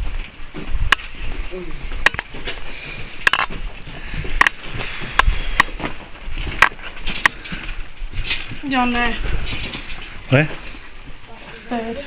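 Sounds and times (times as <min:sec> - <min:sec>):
footsteps on gritty floor: 0:00.0 - 0:12.0.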